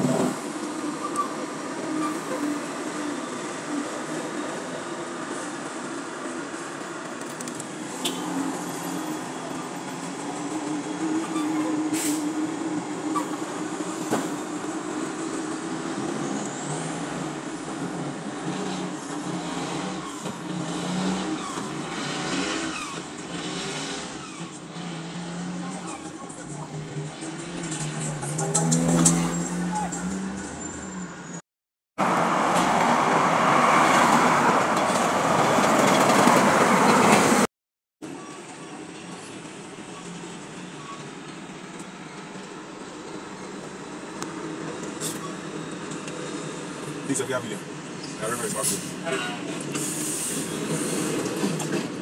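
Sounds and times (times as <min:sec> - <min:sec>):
diesel trucks engine drone: 0:00.0 - 0:31.4, 0:32.0 - 0:52.0.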